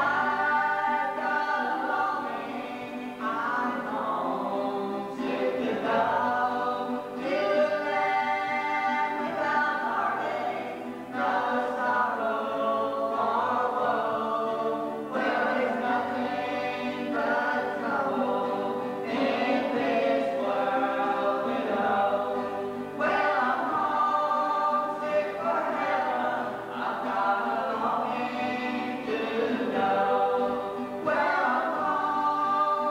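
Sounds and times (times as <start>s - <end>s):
acoustic guitars: 0.0s - 32.9s
voices singing together: 0.0s - 32.9s.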